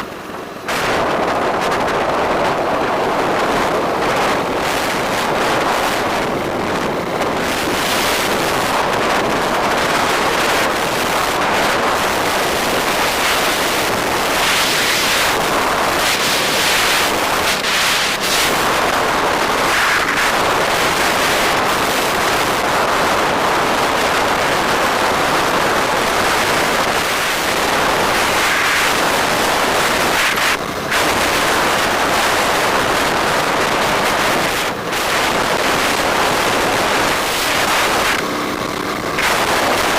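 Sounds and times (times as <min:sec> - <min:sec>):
road and traffic noise: 0:00.0 - 0:39.9
wind rush on microphone: 0:00.0 - 0:39.9.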